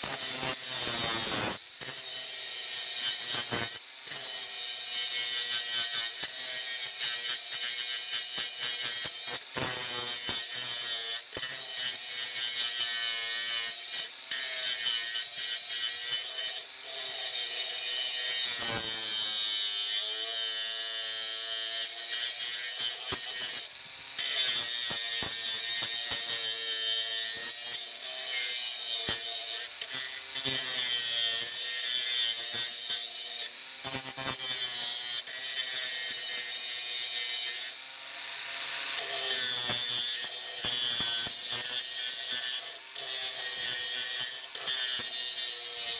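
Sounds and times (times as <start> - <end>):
angle grinder grinding: 0.0 - 45.9.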